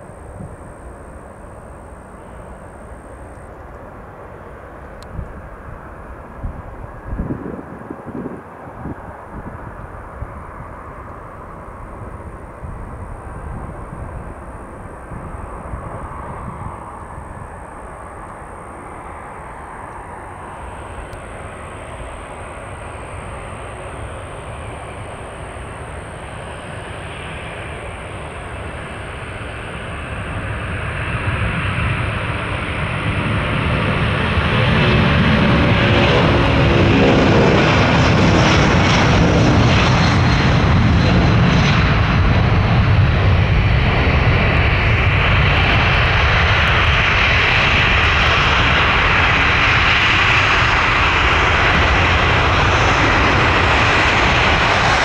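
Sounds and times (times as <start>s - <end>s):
jet airliner engines: 0.0s - 55.0s.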